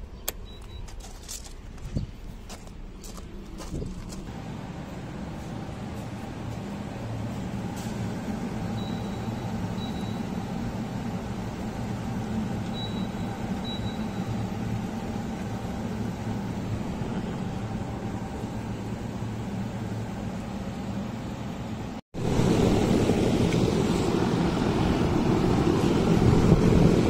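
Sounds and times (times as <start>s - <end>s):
air conditioner fan hum: 0.0s - 27.0s.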